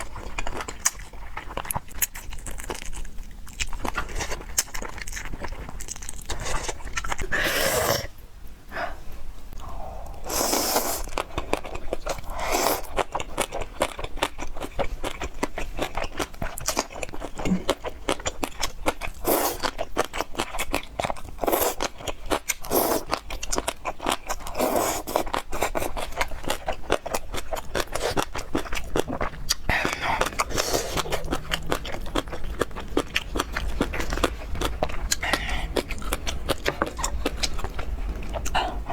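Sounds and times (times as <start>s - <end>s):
crunchy chewing: 0.0s - 8.1s, 10.0s - 38.9s.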